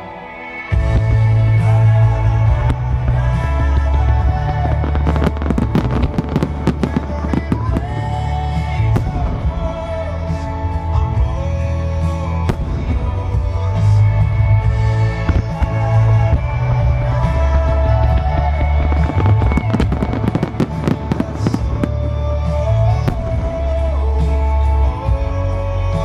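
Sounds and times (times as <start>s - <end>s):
loud song: 0.0s - 26.0s
fireworks bangs: 0.8s - 26.0s.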